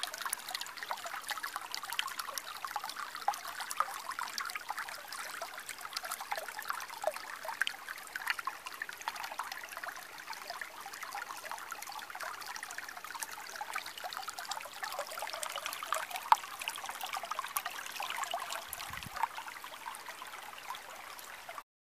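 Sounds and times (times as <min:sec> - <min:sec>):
stream babbling over stones: 0:00.0 - 0:21.6.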